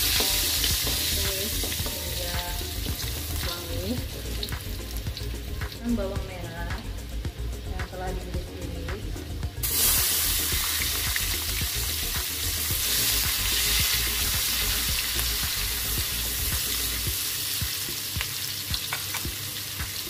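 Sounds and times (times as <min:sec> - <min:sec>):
shallots sizzling in hot oil: 0:00.0 - 0:20.0.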